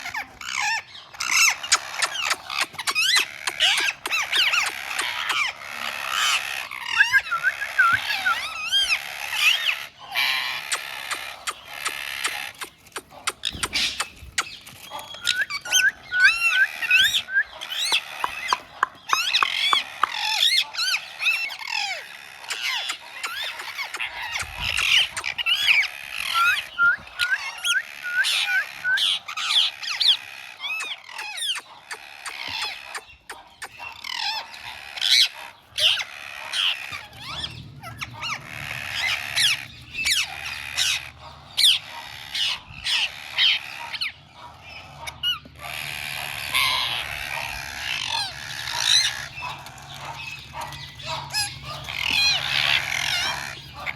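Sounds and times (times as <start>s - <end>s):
parrots chirping and squawking: 0.0s - 53.9s.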